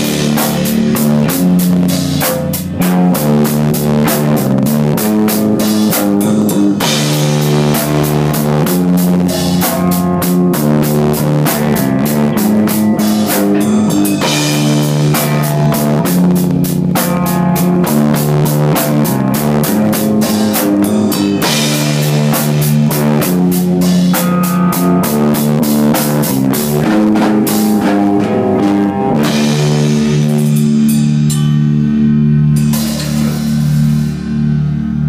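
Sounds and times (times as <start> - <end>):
bass guitar: 0.0 - 35.0
drum kit: 0.0 - 35.0
electric guitar: 0.0 - 35.0.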